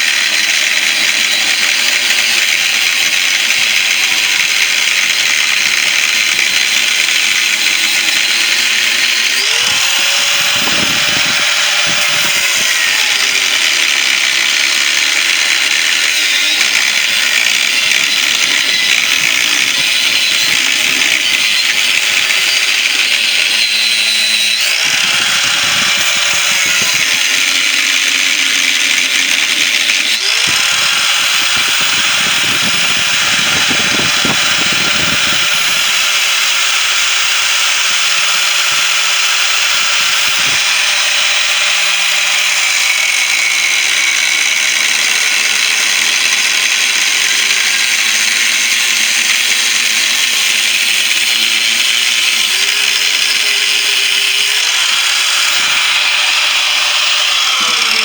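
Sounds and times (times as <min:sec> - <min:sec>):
power tool cutting steel: 0:00.0 - 0:58.0.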